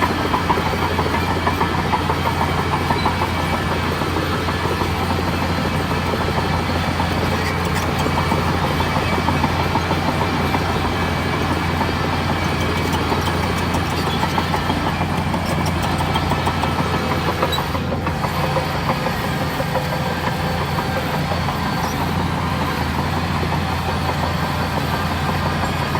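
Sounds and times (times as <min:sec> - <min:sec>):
bulldozer diesel engine running: 0:00.0 - 0:25.9
fast metallic clatter: 0:00.1 - 0:21.0.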